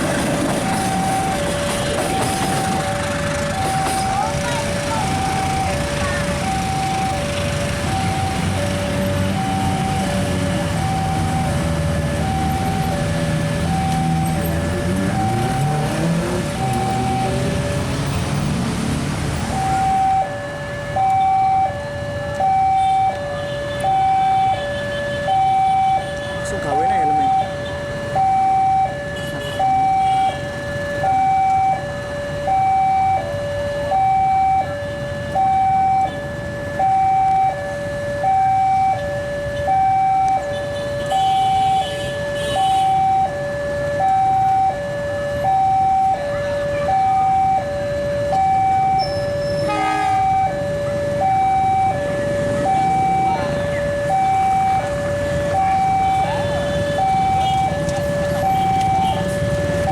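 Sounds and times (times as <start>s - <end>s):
level crossing two-tone alarm: 0.0s - 18.5s, 19.3s - 59.9s
low traffic rumble: 0.0s - 59.9s.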